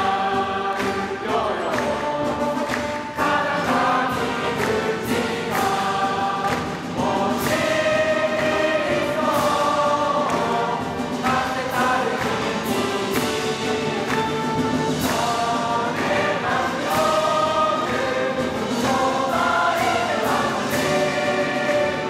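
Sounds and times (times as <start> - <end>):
choir and crowd singing: 0.0 - 22.0
sharp clapping: 0.7 - 10.6, 11.2 - 20.5.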